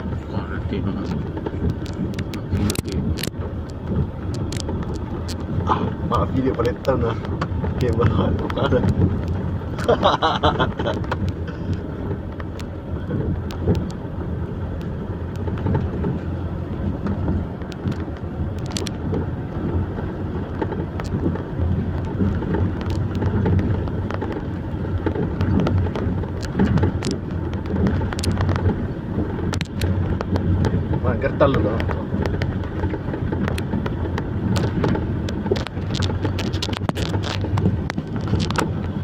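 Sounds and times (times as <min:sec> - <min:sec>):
truck engine running: 0:00.0 - 0:39.0
sharp clicks and knocks: 0:00.4 - 0:39.0.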